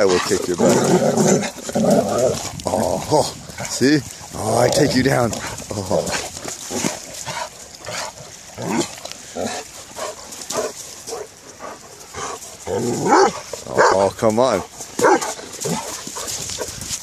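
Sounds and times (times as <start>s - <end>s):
dogs growling: 0.0s - 16.9s.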